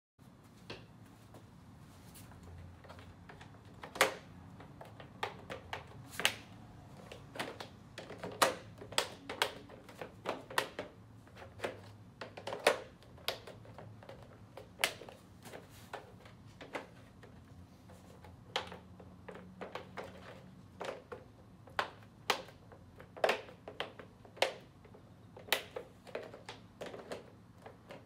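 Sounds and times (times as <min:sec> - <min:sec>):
plastic floor tiles clicking: 0:02.5 - 0:28.0.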